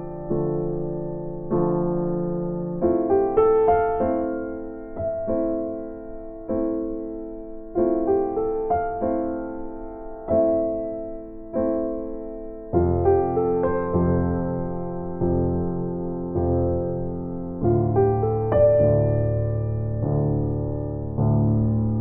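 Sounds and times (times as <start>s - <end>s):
electric piano chords: 0.0s - 22.0s.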